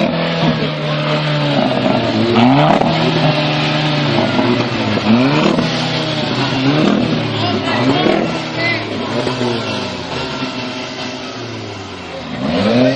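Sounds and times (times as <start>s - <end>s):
car engine revving: 0.0s - 12.9s
exhaust pops: 0.0s - 12.9s.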